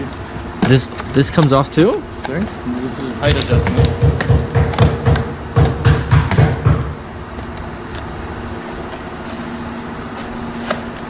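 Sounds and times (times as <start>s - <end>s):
ventilation whoosh with low hum: 0.0s - 11.0s.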